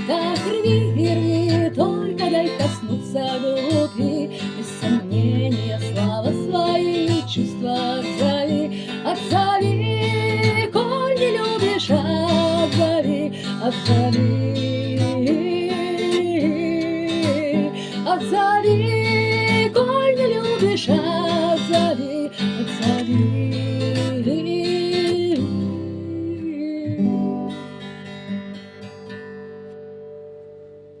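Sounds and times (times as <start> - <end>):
person singing: 0.0 - 27.7
strummed acoustic guitar: 0.0 - 31.0.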